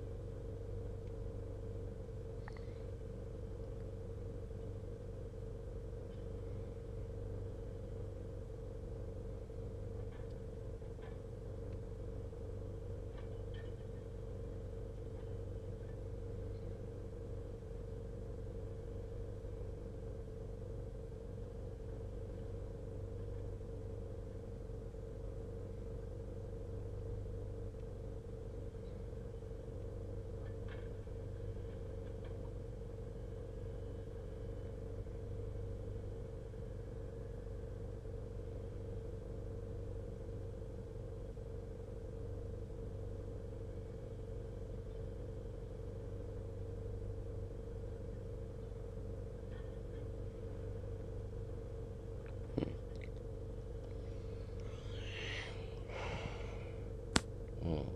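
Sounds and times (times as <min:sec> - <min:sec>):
low engine hum in vehicle cab: 0:00.0 - 0:57.9.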